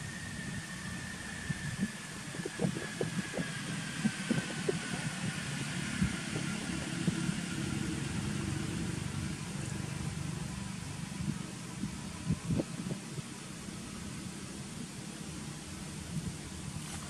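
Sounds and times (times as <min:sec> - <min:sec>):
faint high whine: 0:00.0 - 0:17.0
low mechanical hum: 0:00.0 - 0:17.0.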